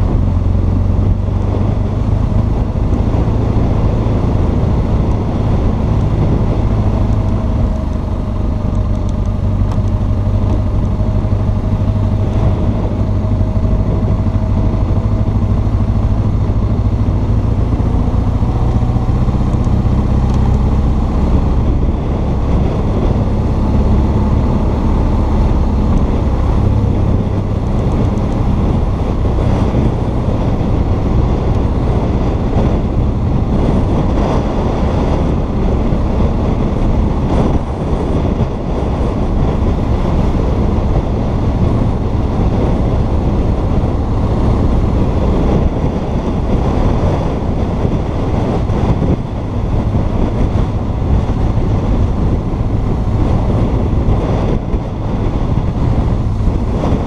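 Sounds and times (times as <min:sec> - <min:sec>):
motorcycle engine running: 0:00.0 - 0:57.0
wind rushing: 0:00.0 - 0:57.0.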